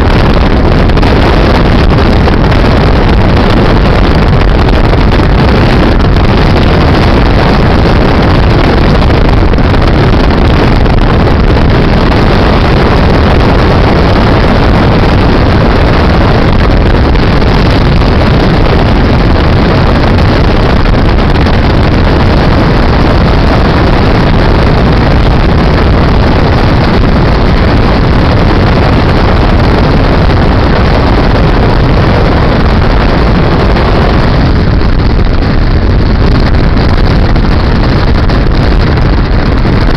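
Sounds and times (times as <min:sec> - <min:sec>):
wind and road noise inside car: 0:00.0 - 0:39.9
wind buffeting microphone: 0:00.0 - 0:39.9.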